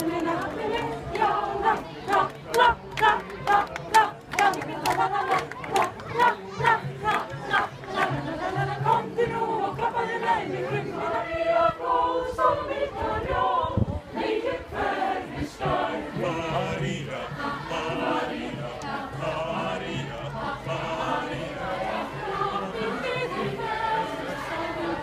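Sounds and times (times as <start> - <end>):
choir singing while marching: 0.0 - 25.0.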